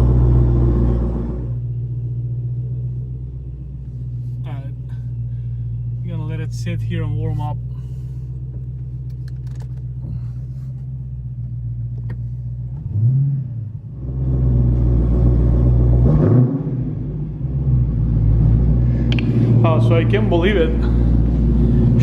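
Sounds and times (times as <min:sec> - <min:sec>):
car engine idling: 0:00.0 - 0:16.0, 0:16.7 - 0:22.0.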